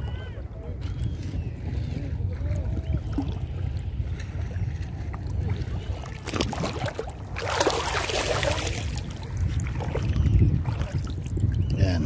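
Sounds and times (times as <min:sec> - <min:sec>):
water splashing: 0:00.0 - 0:11.6
seawater sloshing: 0:00.0 - 0:12.0
wind rumble on microphone: 0:00.0 - 0:12.0.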